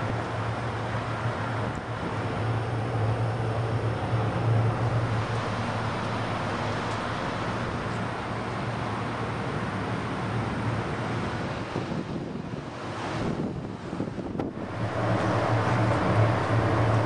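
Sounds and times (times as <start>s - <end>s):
street traffic noise: 0.0s - 17.0s.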